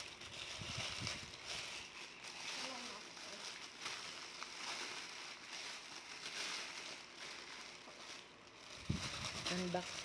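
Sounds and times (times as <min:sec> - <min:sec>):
plastic bag rustling and crinkling: 0:00.0 - 0:10.0.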